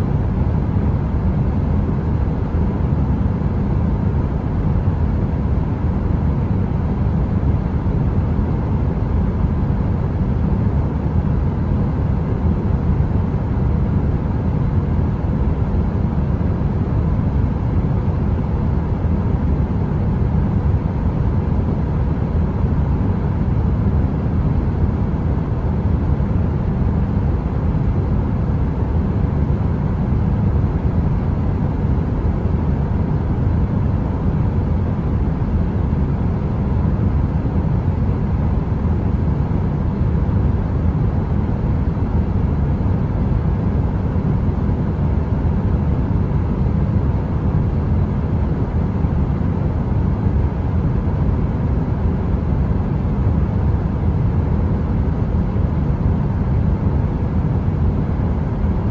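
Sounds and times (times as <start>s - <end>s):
heater white noise: 0.0s - 58.9s.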